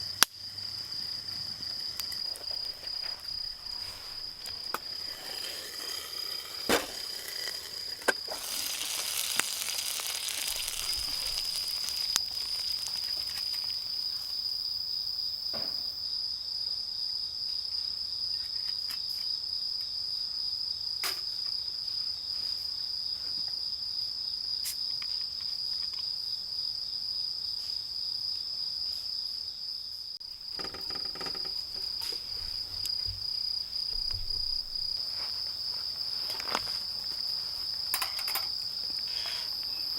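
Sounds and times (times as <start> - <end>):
insects trilling: 0.0 - 29.4, 30.2 - 39.9.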